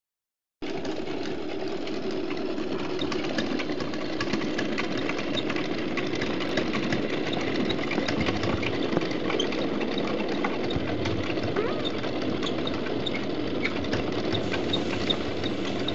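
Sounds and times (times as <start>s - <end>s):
toy engine mechanism clattering: 0.6s - 15.9s.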